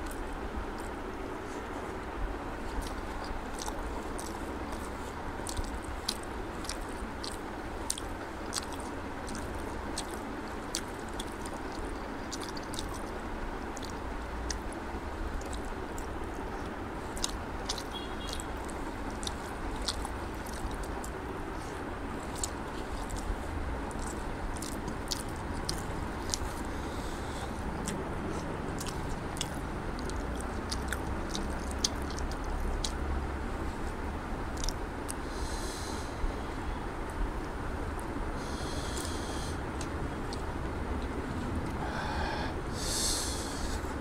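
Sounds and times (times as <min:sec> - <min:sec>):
chewing: 0:00.0 - 0:02.0, 0:02.6 - 0:33.1, 0:34.5 - 0:35.8, 0:38.0 - 0:41.9
steady background noise: 0:00.0 - 0:44.0.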